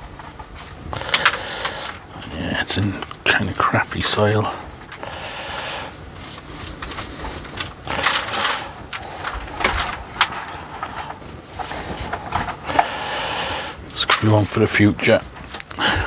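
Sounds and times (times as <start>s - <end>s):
soil scraping and rustling: 0.0s - 16.0s.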